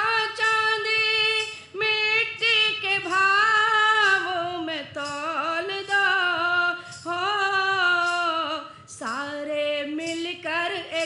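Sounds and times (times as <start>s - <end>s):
woman singing devotional song: 0.0s - 11.0s.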